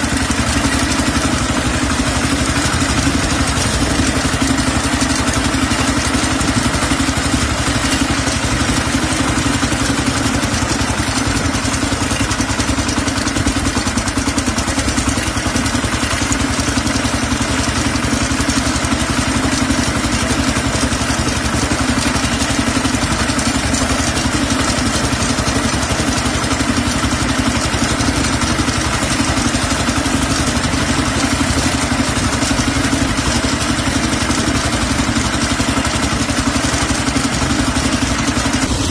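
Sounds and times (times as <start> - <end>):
diesel engine clattering: 0.0 - 38.9.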